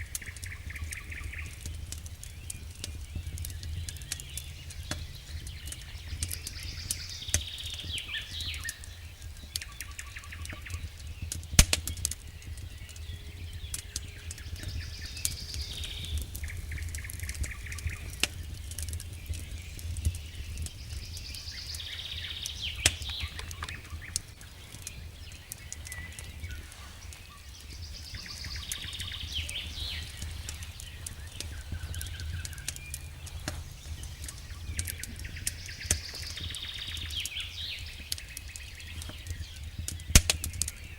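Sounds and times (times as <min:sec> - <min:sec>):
fire low rumble: 0:00.0 - 0:40.9
wood fire crackling and popping: 0:00.0 - 0:40.9.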